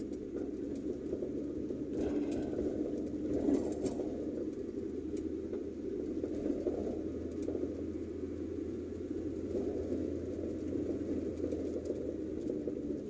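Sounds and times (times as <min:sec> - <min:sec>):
faint ticks: 0:00.0 - 0:08.2, 0:08.9 - 0:13.0
car engine and tyre rumble: 0:00.0 - 0:13.0.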